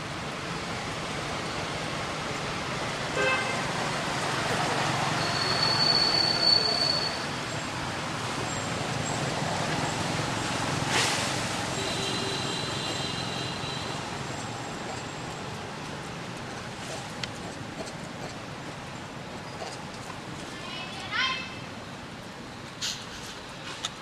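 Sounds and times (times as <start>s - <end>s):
distant road traffic: 0.0s - 24.0s.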